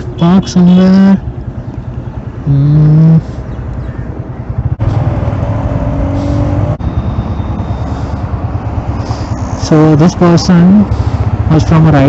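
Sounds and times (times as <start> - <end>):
vehicle engine running in traffic: 0.0 - 12.0.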